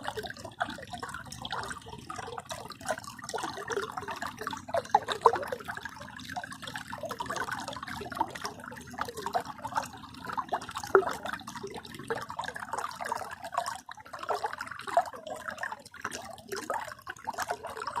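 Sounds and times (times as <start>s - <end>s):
river water bubbling: 0.0s - 18.0s.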